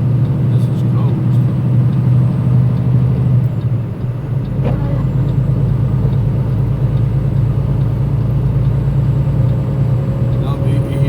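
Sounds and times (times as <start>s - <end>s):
deep rumble: 0.0s - 11.0s
truck engine and road drone: 0.0s - 11.0s.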